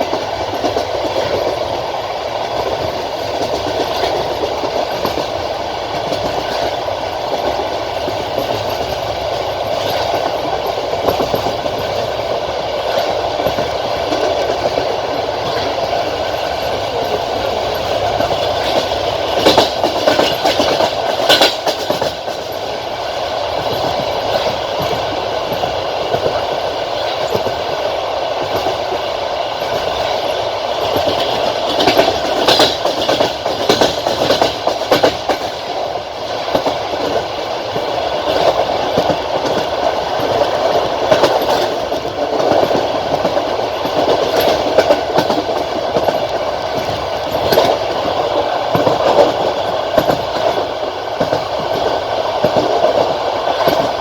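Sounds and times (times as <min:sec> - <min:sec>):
train rolling rush: 0:00.0 - 0:54.0
train wheels clattering over rail joints: 0:00.0 - 0:54.0.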